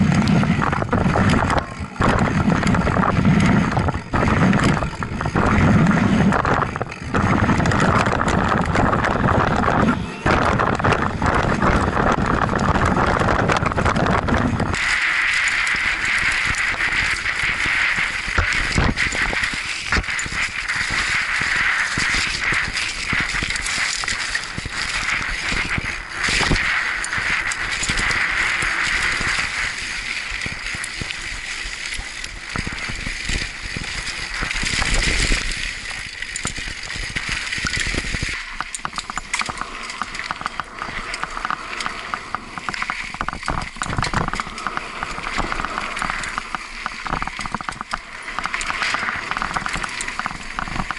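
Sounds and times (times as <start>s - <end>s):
bike chain rattling: 0.0s - 9.8s, 10.4s - 50.9s
bike tyres rolling on dirt: 0.0s - 50.9s.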